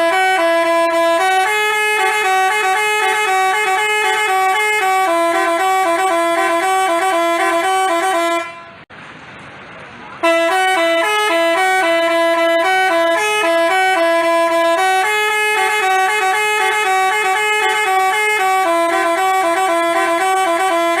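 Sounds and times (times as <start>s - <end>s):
bus horn playing a tune: 0.0s - 8.9s, 10.2s - 21.0s.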